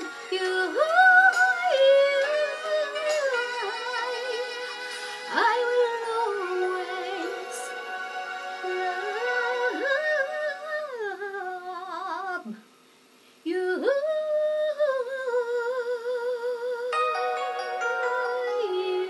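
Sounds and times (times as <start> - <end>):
woman singing with vibrato: 0.0 - 12.6, 13.5 - 19.0.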